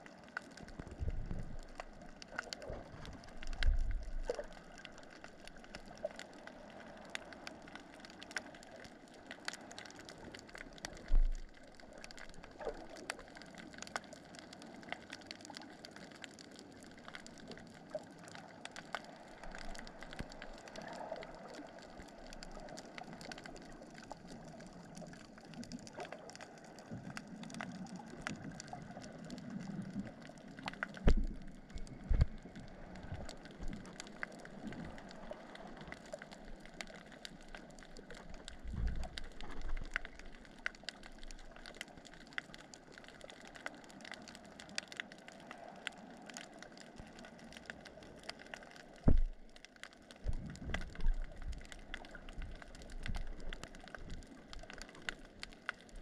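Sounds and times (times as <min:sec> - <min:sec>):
crackle of faint underwater clicks: 0:00.0 - 0:56.0.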